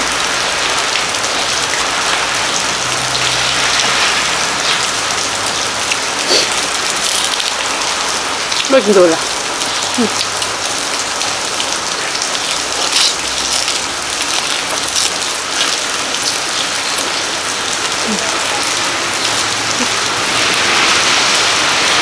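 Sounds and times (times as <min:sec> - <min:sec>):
rain falling: 0:00.0 - 0:22.0
raindrops striking close by: 0:00.0 - 0:22.0.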